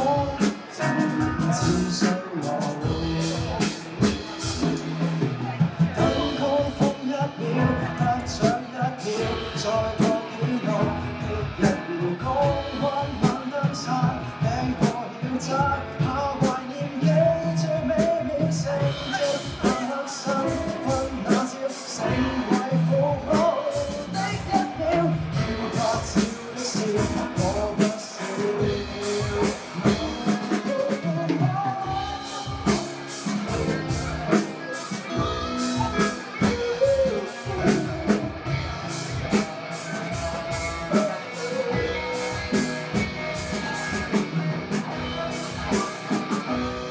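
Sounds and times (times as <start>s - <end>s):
band playing pop-rock: 0.0s - 46.9s
person singing: 0.0s - 46.9s.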